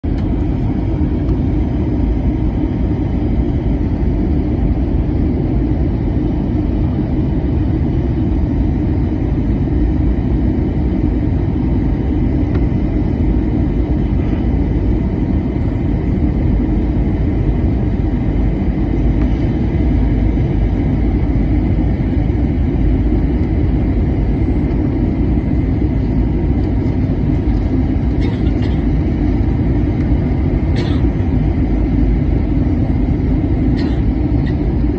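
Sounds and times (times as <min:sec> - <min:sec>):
airplane cabin engine roar: 0:00.0 - 0:34.9
faint steady whine: 0:00.0 - 0:34.9.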